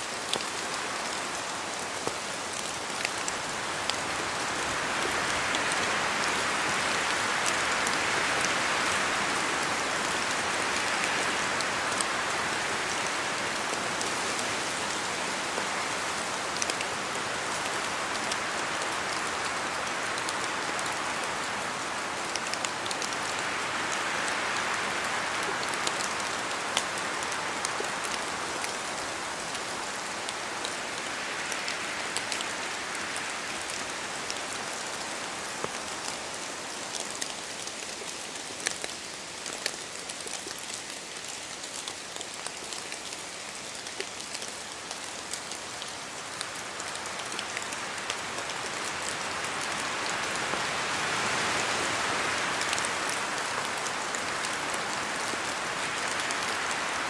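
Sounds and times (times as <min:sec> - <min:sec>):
rain falling through trees: 0:00.0 - 0:57.0
wind gusts in trees: 0:00.0 - 0:57.0.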